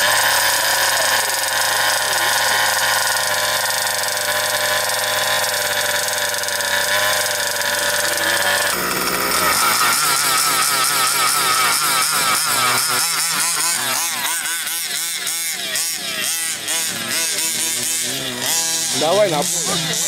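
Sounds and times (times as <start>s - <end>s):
two-stroke engine idling: 0.0s - 20.0s.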